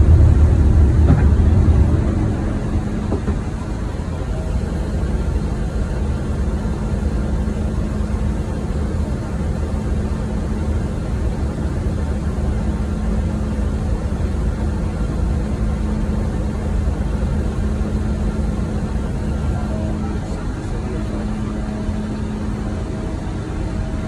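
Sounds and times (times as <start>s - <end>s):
aircraft engines rumbling: 0.0s - 24.0s
constant low hum: 0.0s - 24.0s
rushing air in cabin: 0.0s - 24.0s.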